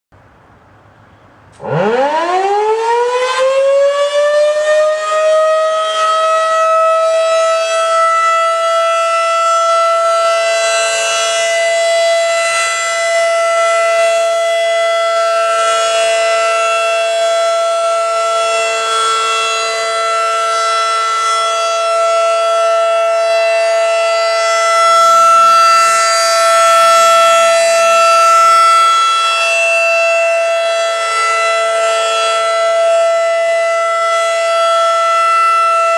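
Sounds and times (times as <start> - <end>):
warning siren winding up: 1.6 - 35.9.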